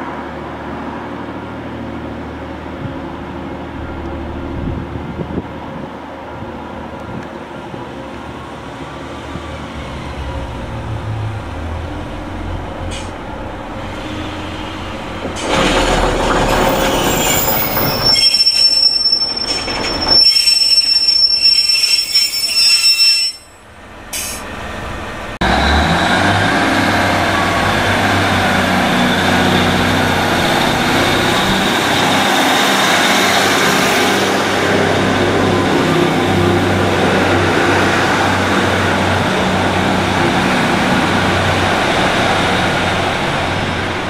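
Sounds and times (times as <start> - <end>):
diesel train engine hum: 0.0 - 22.4, 23.3 - 44.0
diesel train running noise: 0.0 - 44.0
train wheels rolling and squealing: 8.6 - 44.0.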